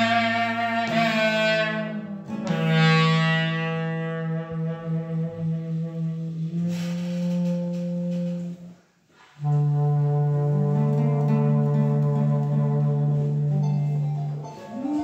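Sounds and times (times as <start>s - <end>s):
clarinet holding long low notes: 0.0s - 8.8s, 9.4s - 15.0s.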